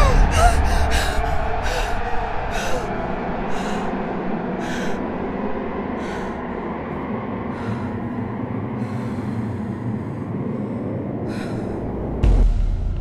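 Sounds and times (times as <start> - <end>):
woman breathing heavily: 0.0 - 12.2
low rumbling drone: 0.0 - 13.0.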